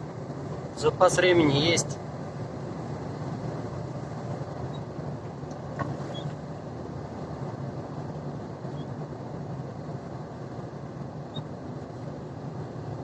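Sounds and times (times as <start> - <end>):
truck cab engine and road noise: 0.0 - 13.0.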